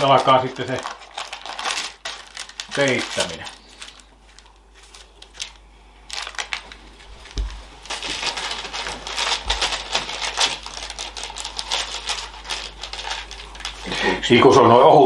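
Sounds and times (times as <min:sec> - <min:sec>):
baking paper crinkling: 0:00.0 - 0:14.3.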